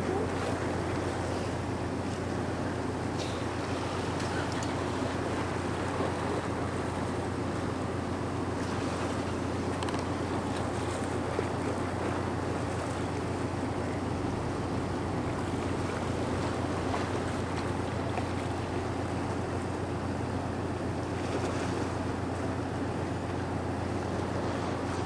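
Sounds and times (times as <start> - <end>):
ship engines droning: 0.0 - 25.0
water rushing: 0.0 - 25.0.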